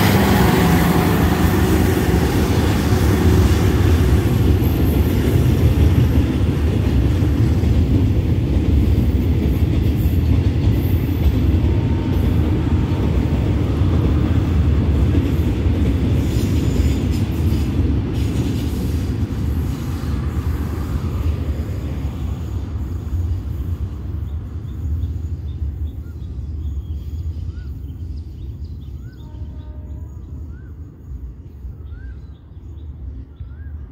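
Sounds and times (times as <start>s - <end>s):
freight train rolling on rails: 0.0s - 33.9s.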